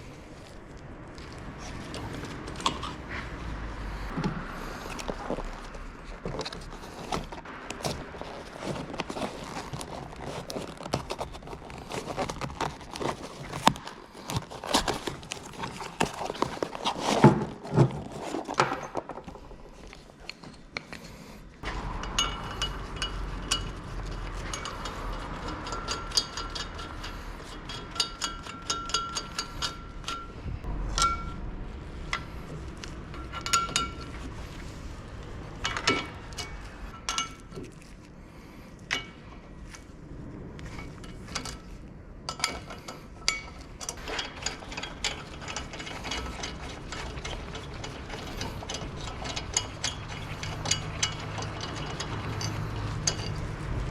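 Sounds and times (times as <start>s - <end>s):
metal tools clinking and knocking: 1.2s - 3.2s, 4.1s - 31.4s, 32.1s - 38.0s, 40.6s - 53.9s.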